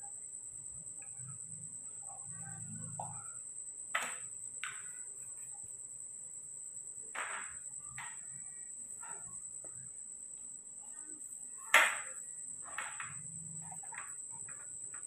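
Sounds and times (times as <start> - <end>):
night insects droning: 0.0 - 15.0.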